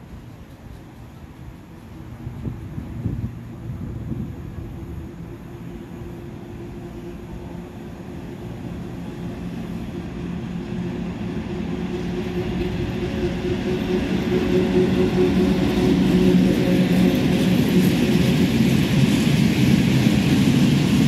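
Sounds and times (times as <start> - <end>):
electric locomotive hum: 0.0 - 21.0
train rumble: 0.0 - 21.0.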